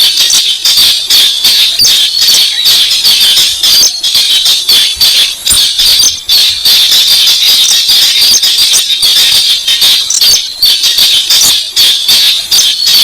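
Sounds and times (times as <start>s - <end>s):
harsh rattling bird chatter: 0.0s - 13.0s.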